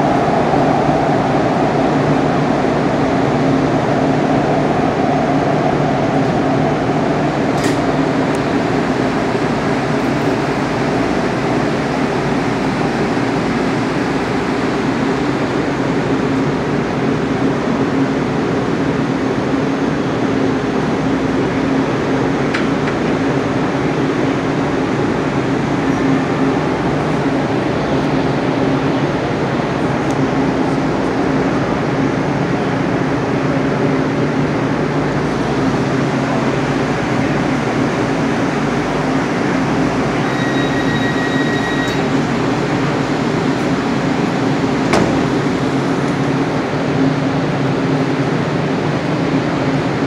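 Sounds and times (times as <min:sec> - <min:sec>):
train wheels and motors rumbling: 0:00.0 - 0:50.0.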